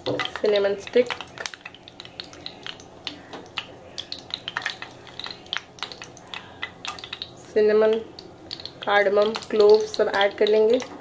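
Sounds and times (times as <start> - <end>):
spices frying in crackling oil: 0.0 - 11.0.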